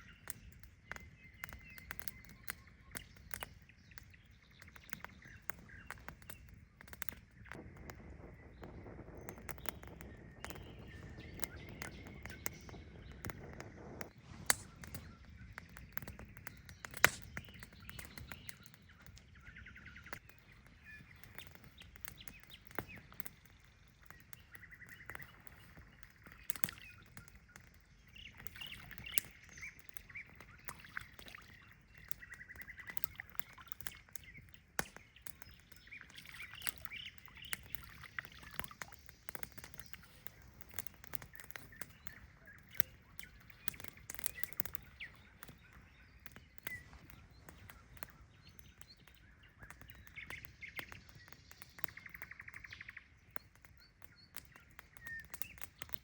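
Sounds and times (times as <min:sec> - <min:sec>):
birds calling: 0:00.0 - 0:55.9
small clicks and snaps: 0:00.0 - 0:56.0.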